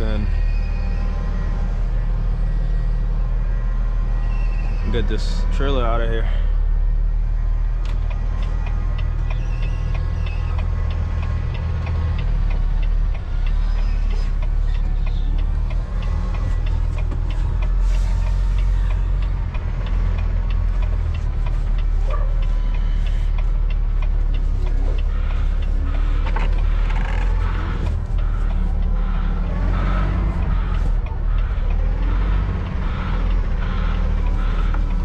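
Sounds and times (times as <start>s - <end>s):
diesel truck engine idling: 4.9s - 35.0s.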